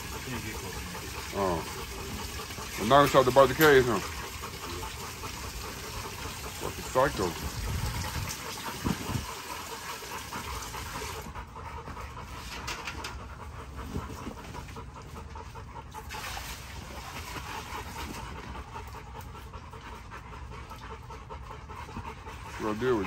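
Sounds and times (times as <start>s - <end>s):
dog panting rapidly: 0.0s - 23.0s.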